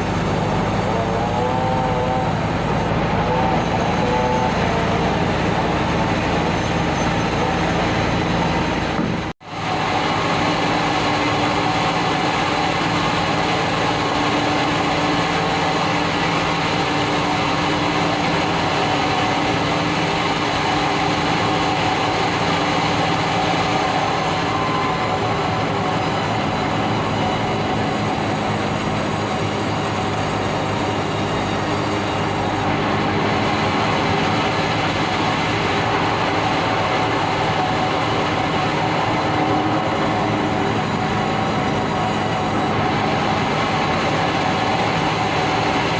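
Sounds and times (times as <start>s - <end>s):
band saw rumbling and whining: 0.0s - 45.9s.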